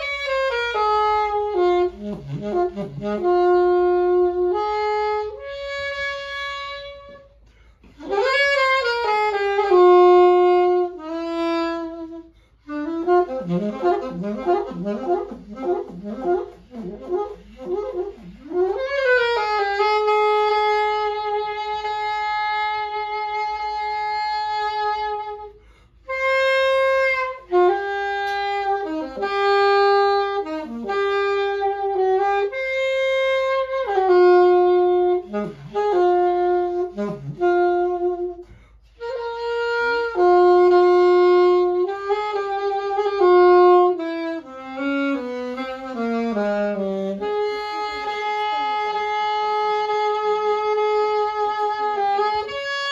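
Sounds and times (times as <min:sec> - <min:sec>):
solo saxophone melody: 0:00.0 - 0:52.9.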